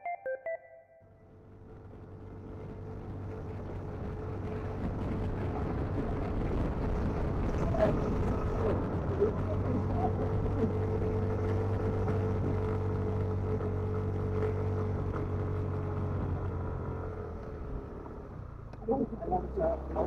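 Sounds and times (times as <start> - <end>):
engine humming: 1.2 - 20.0
wind rumble on microphone: 1.4 - 20.0.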